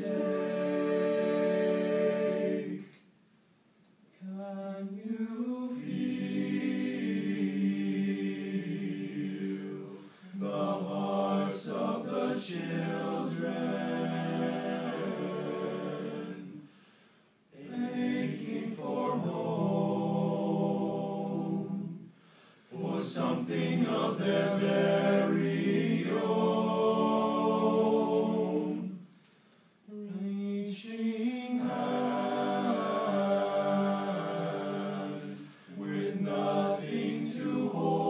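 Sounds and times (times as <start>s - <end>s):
men singing a cappella: 0.0s - 3.0s, 4.2s - 16.7s, 17.6s - 22.1s, 22.7s - 29.0s, 29.9s - 38.0s.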